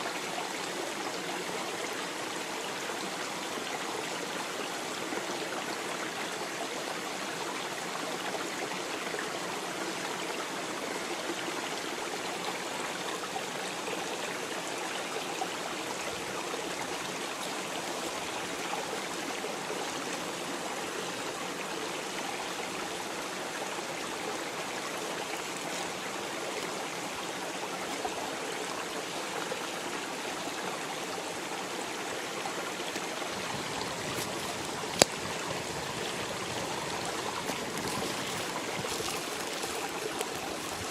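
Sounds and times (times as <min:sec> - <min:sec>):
flowing water: 0:00.0 - 0:40.9.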